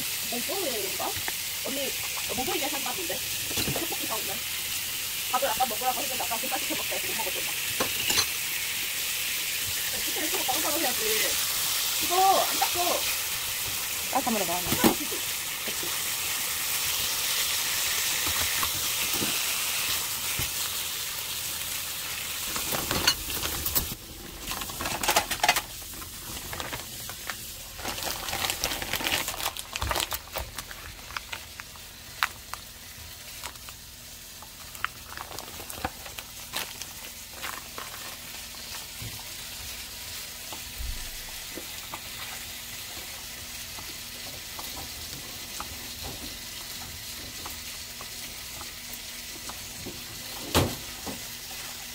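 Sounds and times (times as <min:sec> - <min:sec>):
meat sizzling in a frying pan: 0:00.0 - 0:51.9.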